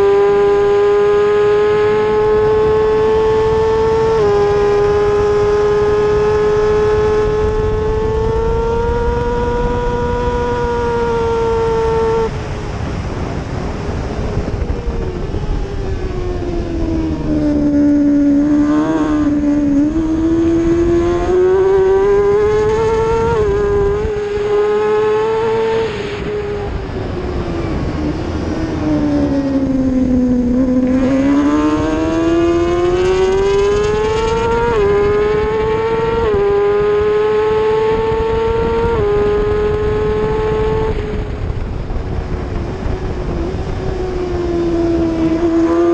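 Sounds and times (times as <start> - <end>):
race motorcycle engine revving: 0.0 - 12.4, 16.4 - 45.9.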